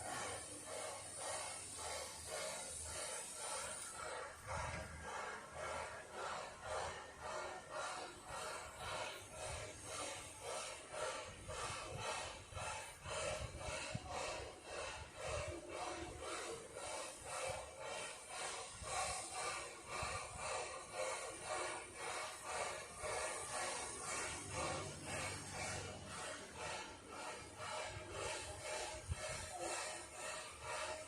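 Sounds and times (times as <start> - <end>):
steam locomotive chuffing: 0.0 - 31.0.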